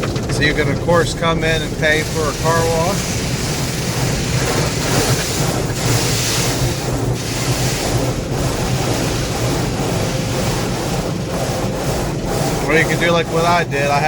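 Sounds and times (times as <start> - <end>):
constant low hum: 0.0 - 14.0
water spray and wash equipment: 0.0 - 14.0.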